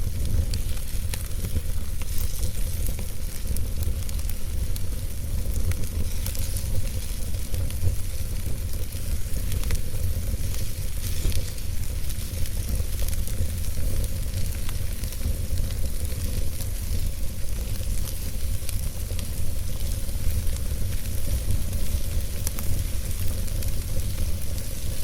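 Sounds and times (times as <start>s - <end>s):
fire hissing: 0.0s - 25.0s
fire low rumble: 0.0s - 25.0s
wood fire crackling: 0.0s - 25.0s.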